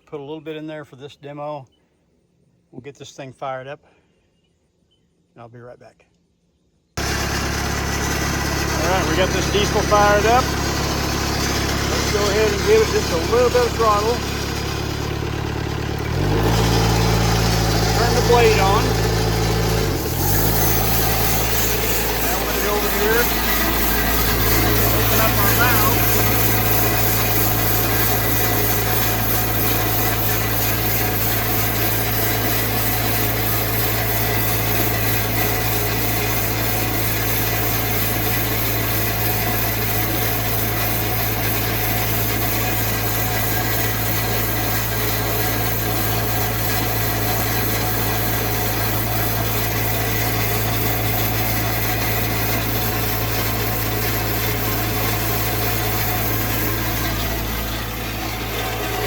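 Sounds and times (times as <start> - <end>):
band saw blade whirring: 7.0 - 59.0
diesel engine drone: 7.0 - 59.0.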